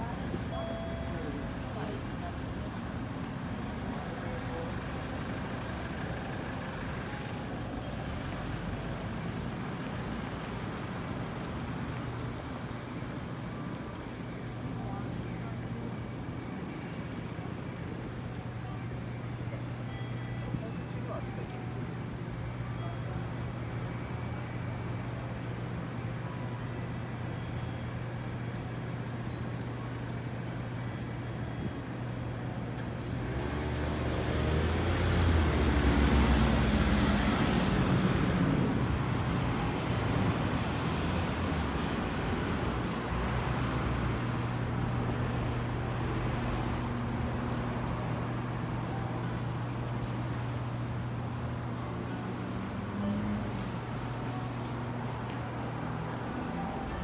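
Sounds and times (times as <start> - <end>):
heavy vehicle engine rumble: 0.0 - 57.0
road traffic noise: 0.0 - 57.0.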